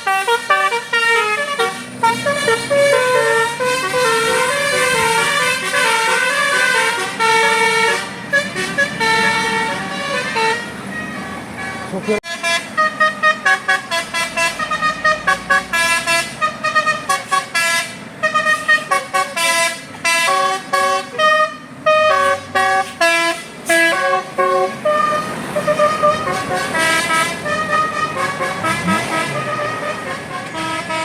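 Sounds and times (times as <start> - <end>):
bus musical air horn melody: 0.0 - 31.0.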